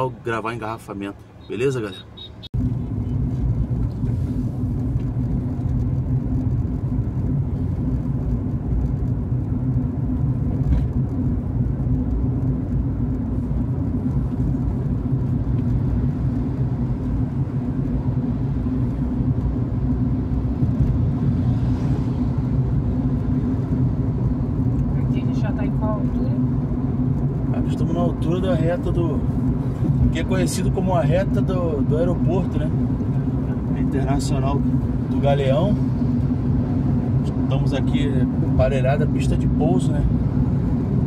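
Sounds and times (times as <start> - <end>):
car engine and road noise: 0.0 - 41.0.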